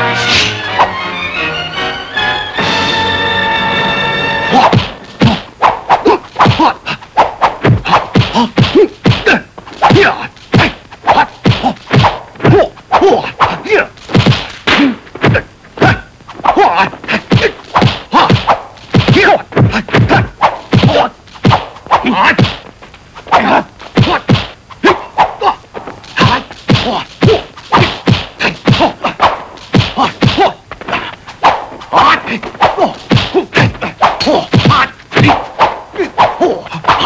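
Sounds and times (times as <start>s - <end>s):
fighters grunting and shouting: 4.5s - 22.6s, 23.2s - 37.0s
punch and block impacts: 4.5s - 22.7s, 23.3s - 37.0s.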